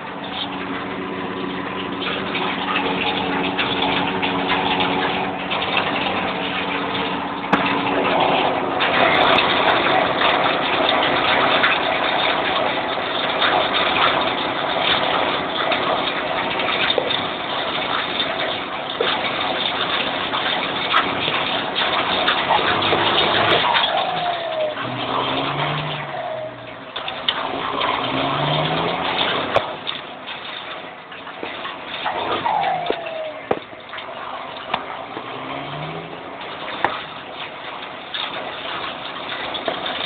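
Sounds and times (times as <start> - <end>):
diesel tractor engine running: 0.0 - 40.0.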